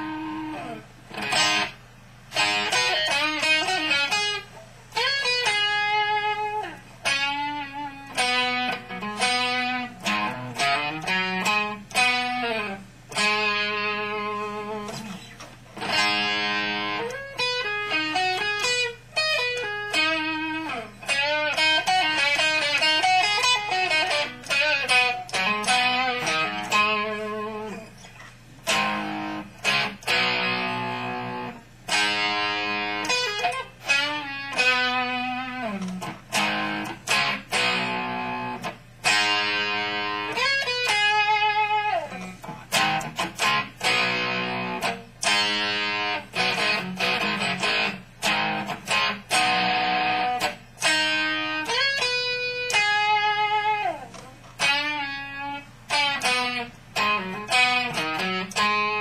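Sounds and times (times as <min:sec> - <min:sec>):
electric guitar through amplifier: 0:00.0 - 0:59.0.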